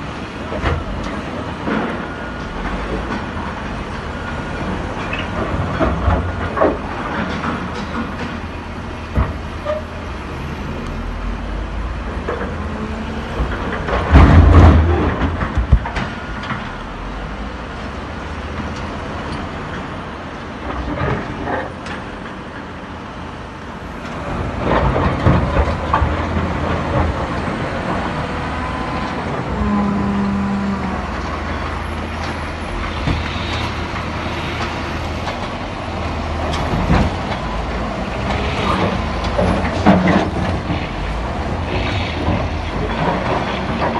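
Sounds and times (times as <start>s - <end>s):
diesel machinery rumbling: 0.0s - 43.9s.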